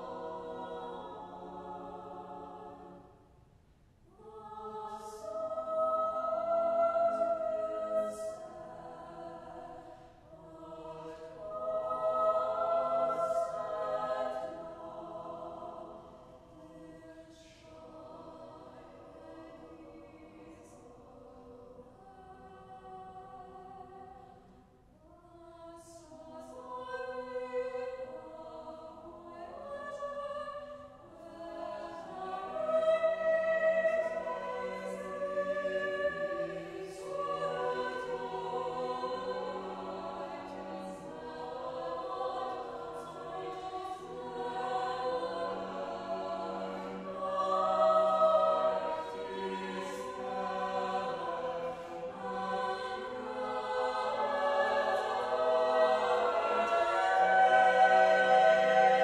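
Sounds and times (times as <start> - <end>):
chamber choir singing: 0.0 - 3.3, 4.0 - 59.0.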